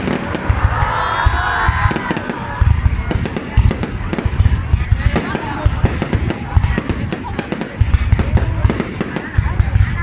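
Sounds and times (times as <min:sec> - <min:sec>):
crowd noise: 0:00.0 - 0:10.0
fireworks thuds and crackles: 0:00.0 - 0:10.0.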